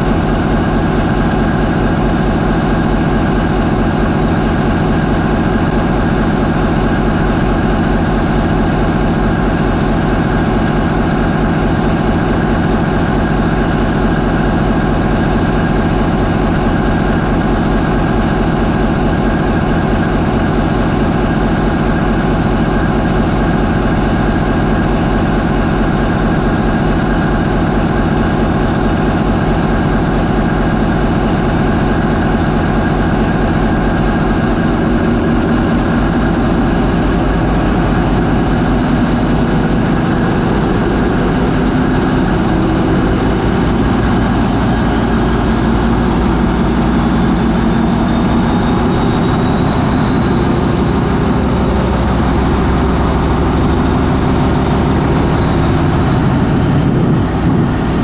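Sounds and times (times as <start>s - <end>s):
diesel marine engine revving: 0.0s - 58.0s
turbocharger whine rising: 0.0s - 58.0s.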